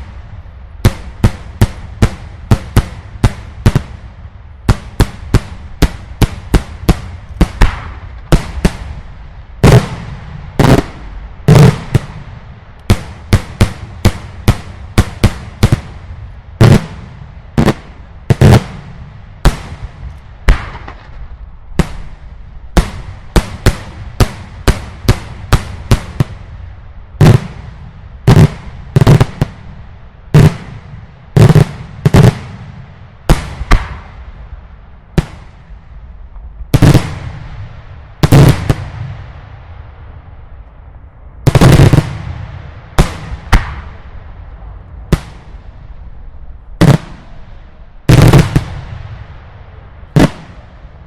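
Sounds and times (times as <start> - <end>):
fireworks exploding: 0.0 - 40.3, 41.4 - 51.0
dense crackling of fireworks: 0.0 - 51.0.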